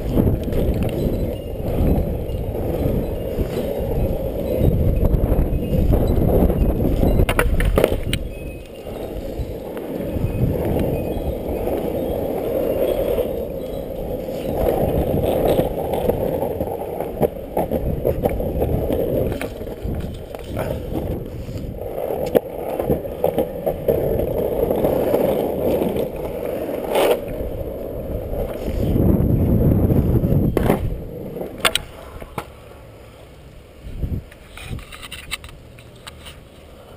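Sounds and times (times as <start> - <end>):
skateboard clacks: 0.0 - 32.8
skateboard wheels rolling on asphalt: 0.0 - 36.9.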